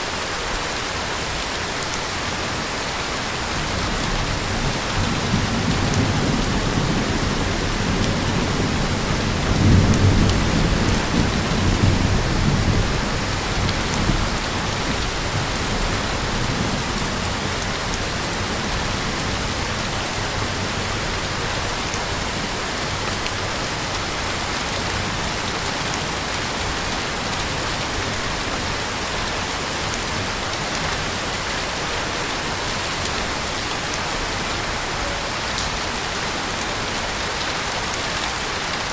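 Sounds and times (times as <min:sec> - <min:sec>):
heavy rain falling: 0:00.0 - 0:38.9
thunder rumbling: 0:03.5 - 0:37.9.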